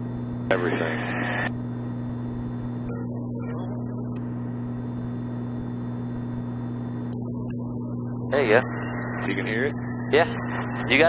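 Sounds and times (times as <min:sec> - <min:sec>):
aircraft engine droning in cabin: 0:00.0 - 0:11.0.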